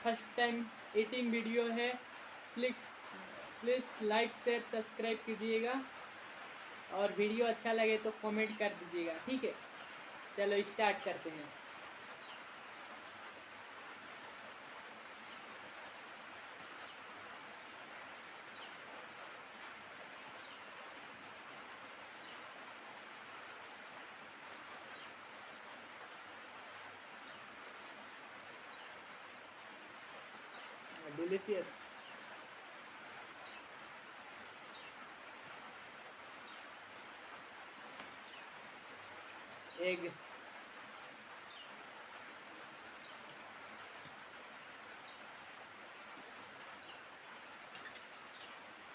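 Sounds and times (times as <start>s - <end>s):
background hiss: 0.0s - 48.9s.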